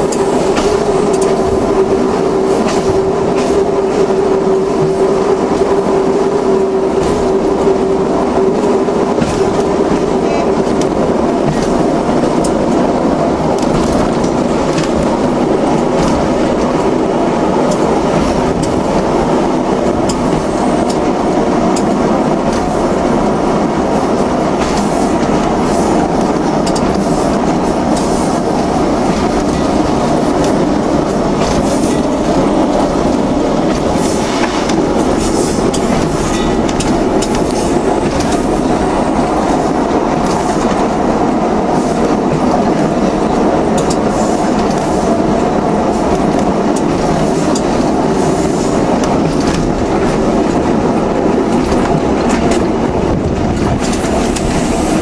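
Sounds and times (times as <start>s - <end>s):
rail-joint clicks: 0.0s - 55.0s
train wheels rumbling on rail: 0.0s - 55.0s.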